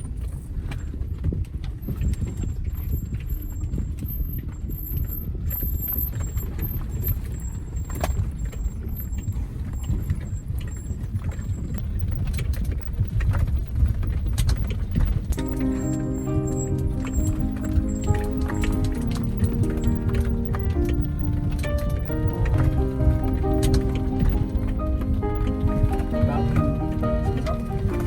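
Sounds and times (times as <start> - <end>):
car driving on rough track: 0.0 - 28.0.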